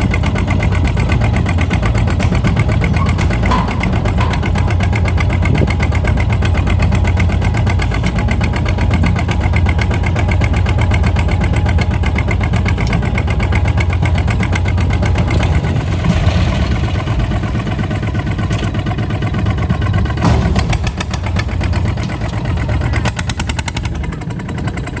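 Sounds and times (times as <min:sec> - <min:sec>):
diesel engine chugging: 0:00.0 - 0:25.0
engine knock: 0:00.0 - 0:25.0.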